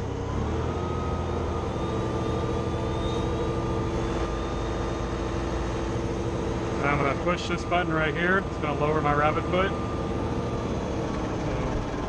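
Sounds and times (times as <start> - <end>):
diesel engine running: 0.0 - 12.0
hydraulic whine: 0.0 - 12.0.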